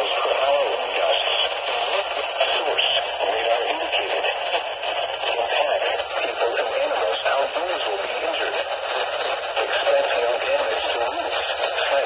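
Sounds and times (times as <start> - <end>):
radio hiss: 0.0 - 12.0
voice over radio: 0.0 - 12.0.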